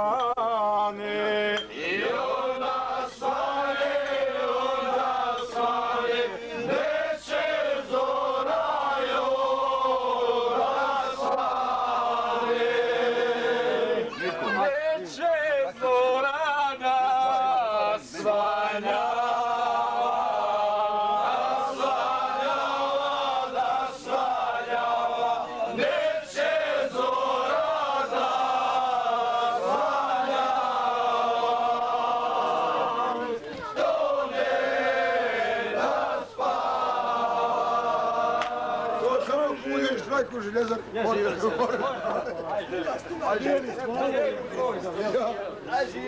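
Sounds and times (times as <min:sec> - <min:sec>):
men singing in chorus: 0:00.0 - 0:39.5.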